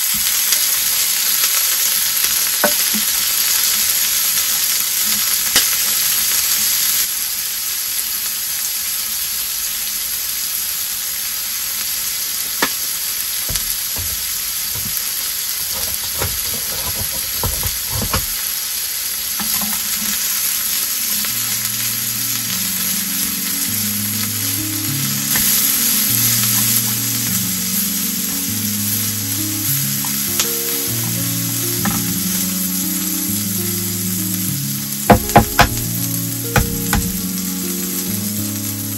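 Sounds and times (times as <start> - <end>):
food sizzling in a grill pan: 0.0 - 38.9.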